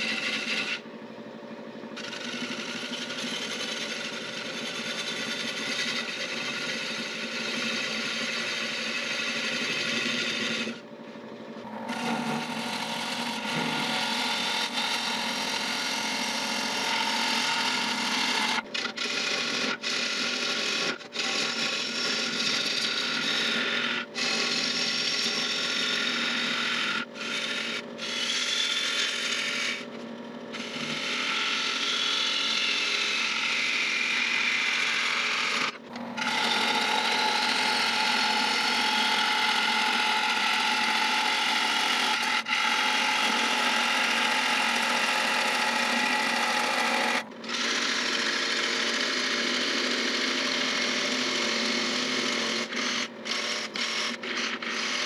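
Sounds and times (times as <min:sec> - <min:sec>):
gouge scraping spinning wood: 0:00.0 - 0:55.0.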